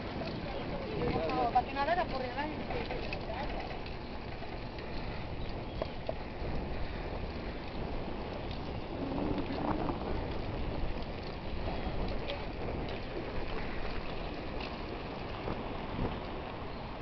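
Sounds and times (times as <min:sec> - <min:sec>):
bicycle rolling on pavement: 0:00.0 - 0:17.0
wind on microphone: 0:00.0 - 0:17.0.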